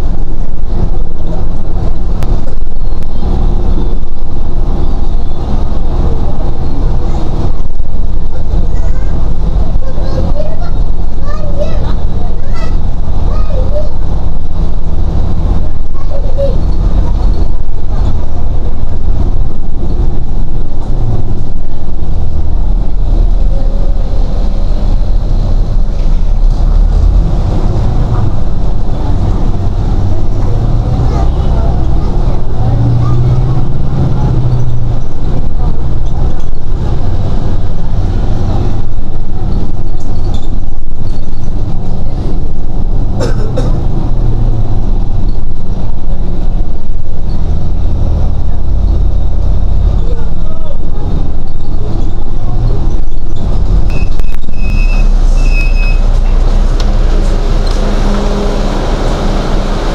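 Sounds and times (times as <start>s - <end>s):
bus engine and tyres rumbling: 0.0s - 59.9s.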